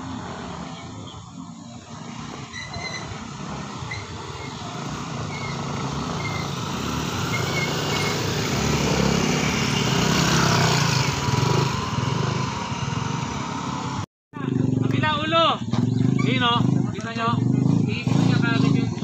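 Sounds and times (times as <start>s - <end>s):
small motorcycle engine running: 1.8s - 19.0s.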